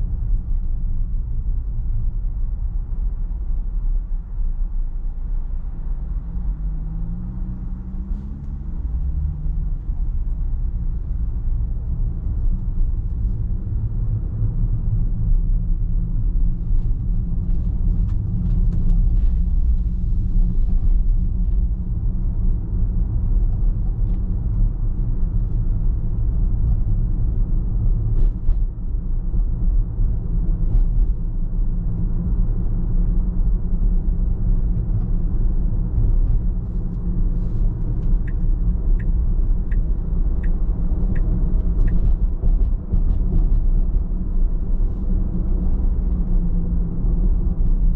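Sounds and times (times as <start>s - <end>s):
car engine and tyre rumble: 0.0s - 47.9s.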